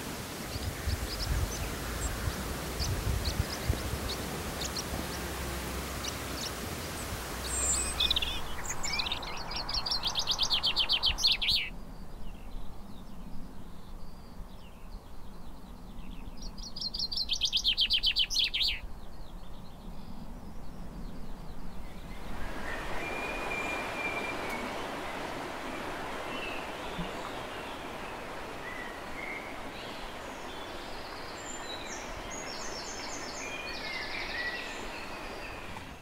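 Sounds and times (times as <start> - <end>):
light outdoor hiss: 0.0 - 36.0
songbird singing: 0.0 - 36.0.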